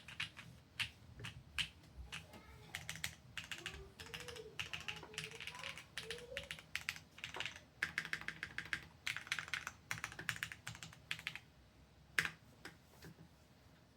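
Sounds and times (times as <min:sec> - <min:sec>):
mechanical keyboard typing: 0:00.0 - 0:11.4, 0:12.2 - 0:12.4.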